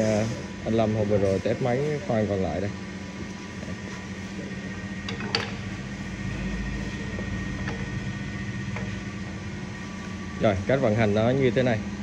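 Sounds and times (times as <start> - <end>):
workshop machinery hum: 0.0 - 12.0.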